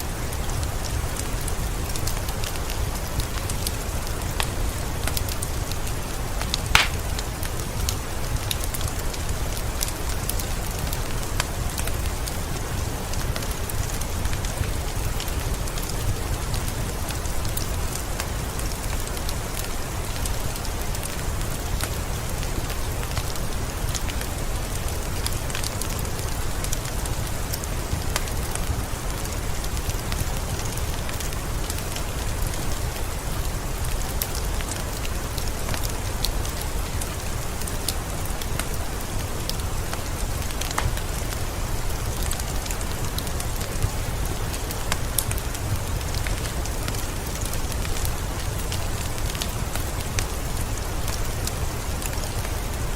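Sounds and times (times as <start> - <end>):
heavy rain downpour: 0.0 - 52.9.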